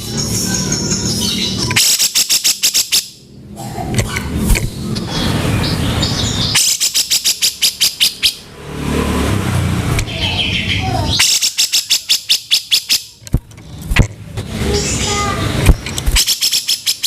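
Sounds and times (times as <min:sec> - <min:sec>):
bird giving harsh chattering calls: 0:00.0 - 0:08.5, 0:10.0 - 0:14.0, 0:14.7 - 0:17.0.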